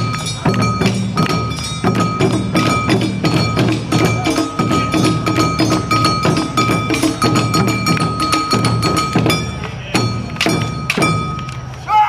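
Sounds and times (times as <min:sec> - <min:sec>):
taiko drums: 0:00.0 - 0:11.8.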